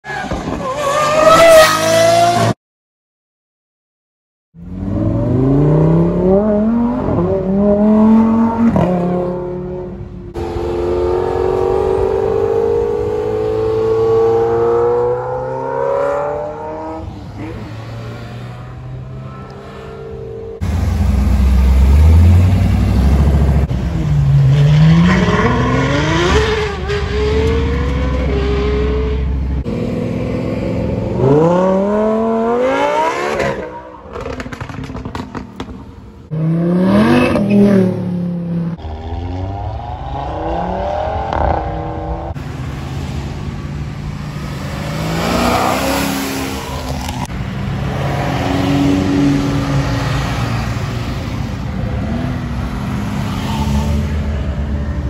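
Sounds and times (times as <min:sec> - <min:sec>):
sports car engines revving: 0:04.6 - 0:55.0.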